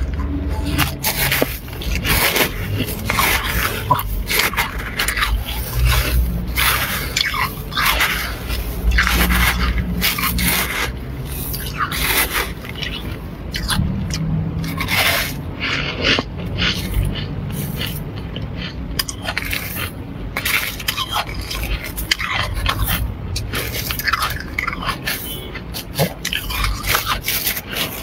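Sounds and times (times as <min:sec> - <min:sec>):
freezer frost being scraped: 0:00.4 - 0:18.0, 0:19.0 - 0:28.0.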